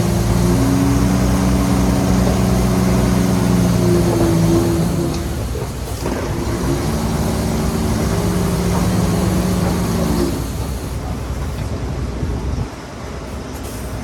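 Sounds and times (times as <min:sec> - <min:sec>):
diesel engine running: 0:00.0 - 0:12.7.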